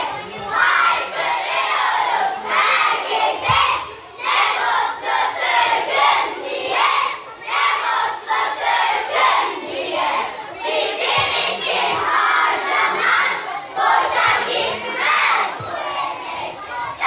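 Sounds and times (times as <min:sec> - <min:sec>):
children chanting in unison: 0:00.0 - 0:17.0.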